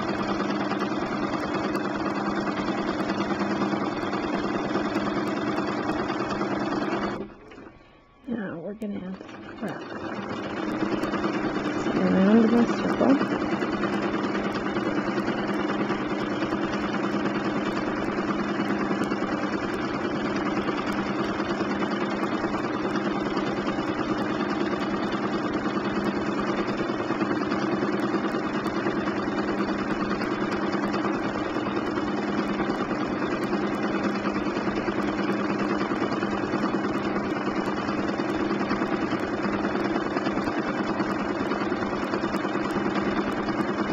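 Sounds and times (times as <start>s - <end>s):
sewing machine running: 0.0s - 43.9s.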